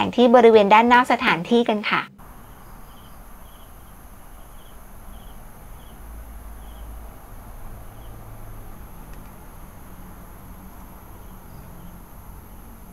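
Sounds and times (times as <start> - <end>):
low steady hum: 0.0 - 12.9
cricket chirping: 2.2 - 12.9
high insect drone: 2.2 - 12.9.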